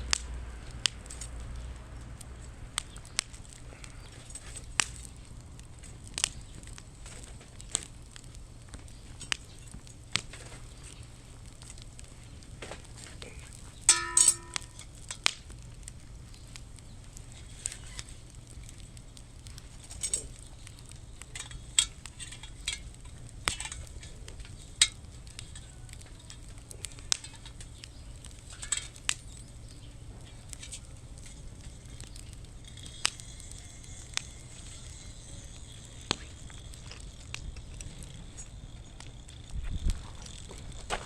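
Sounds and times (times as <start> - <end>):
fire crackling and popping: 0.0 - 41.0.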